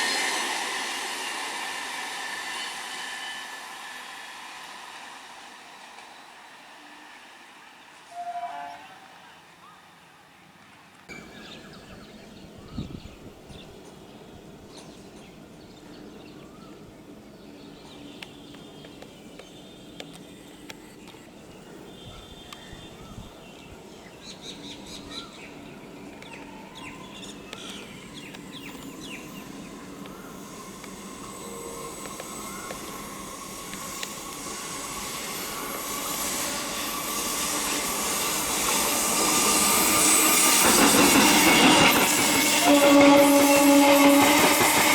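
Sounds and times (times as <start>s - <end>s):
rail hiss: 0.0s - 11.6s, 12.2s - 44.9s
electric train approaching: 0.0s - 44.9s.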